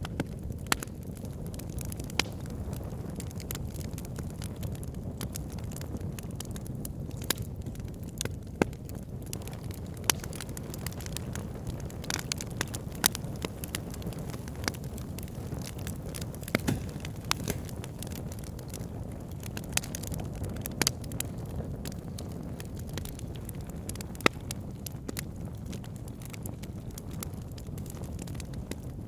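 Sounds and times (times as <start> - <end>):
fire flames rushing: 0.0 - 29.0
wood fire crackling and popping: 0.0 - 29.0.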